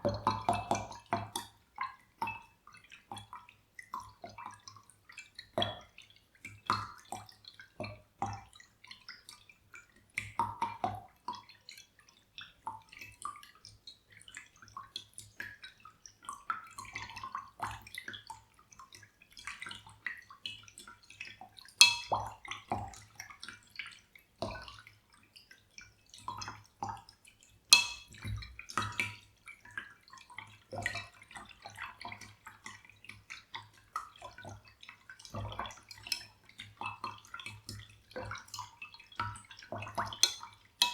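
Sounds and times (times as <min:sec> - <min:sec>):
water dripping and splashing: 0:00.0 - 0:40.9.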